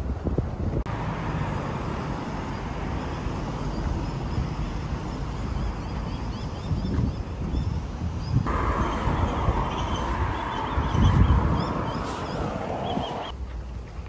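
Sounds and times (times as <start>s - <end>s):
wind buffeting microphone: 0.0s - 1.0s, 2.8s - 13.4s
street traffic rumble: 0.0s - 14.0s.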